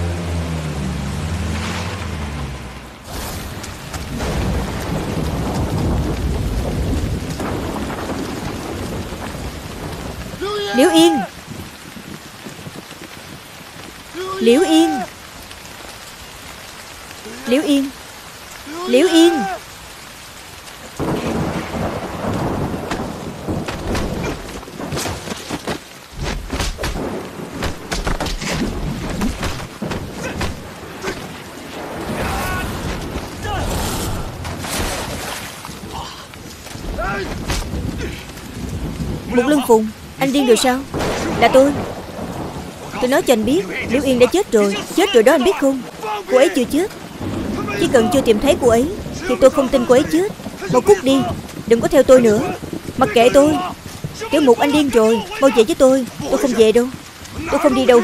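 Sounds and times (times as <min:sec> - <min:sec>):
heavy rain falling: 0:00.0 - 0:58.0
thunder rumbling: 0:00.0 - 0:58.0.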